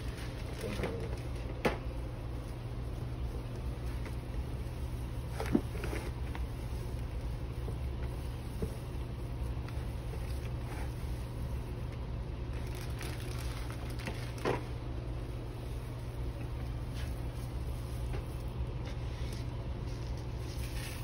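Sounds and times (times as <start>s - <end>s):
food being mixed by hand: 0.0s - 21.0s
low mechanical hum: 0.0s - 21.0s.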